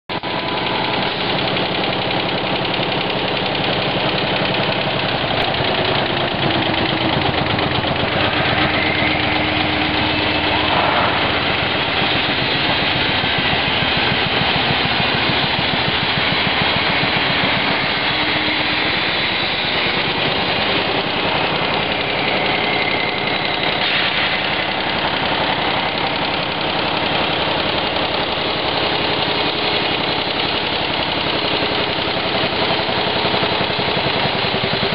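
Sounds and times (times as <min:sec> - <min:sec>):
embroidery machine stitching clatter: 0:00.1 - 0:34.9
motor hum: 0:00.1 - 0:34.9.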